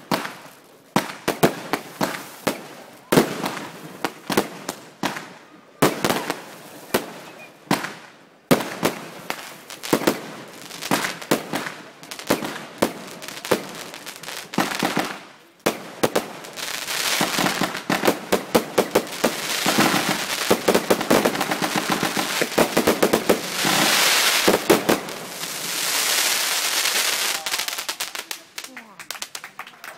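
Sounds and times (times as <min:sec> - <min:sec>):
fireworks bursting: 0:00.0 - 0:29.6
fireworks popping and crackling: 0:00.0 - 0:29.9.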